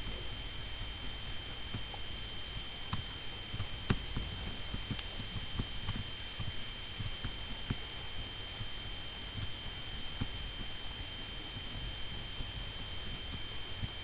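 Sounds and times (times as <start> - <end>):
high-pitched electrical whine: 0.0 - 14.0
low hum: 0.0 - 14.0.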